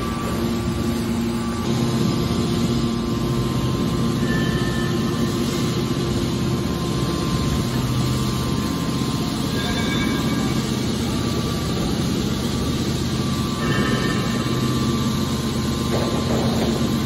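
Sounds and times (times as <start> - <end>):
hydraulic machine humming: 0.0 - 17.0.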